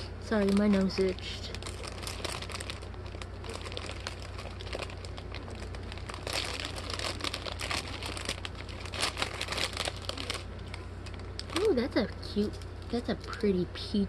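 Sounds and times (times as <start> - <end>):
plastic bags crinkling: 0.2 - 13.4.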